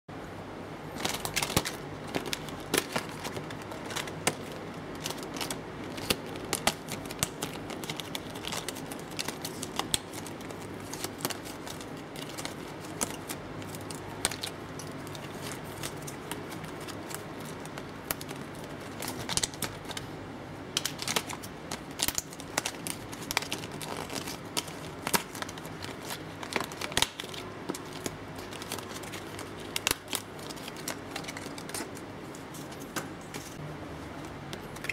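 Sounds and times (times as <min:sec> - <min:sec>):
steady background hum: 0:00.1 - 0:34.9
card paper clicks and rustles: 0:01.0 - 0:20.1, 0:20.8 - 0:34.9.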